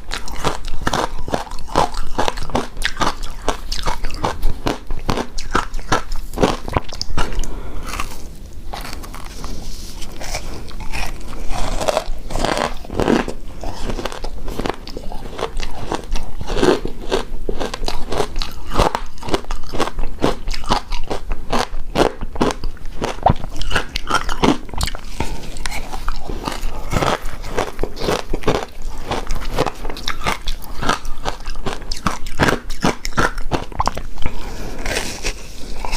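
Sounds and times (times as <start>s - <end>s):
crunchy chewing of ice: 0.0s - 35.9s.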